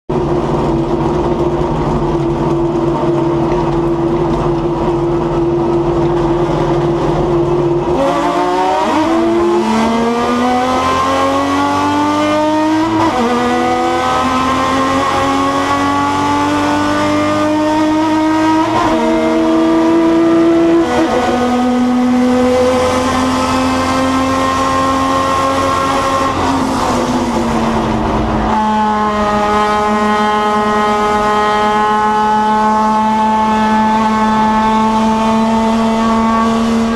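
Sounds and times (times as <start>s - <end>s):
race car engine accelerating: 0.1s - 36.9s.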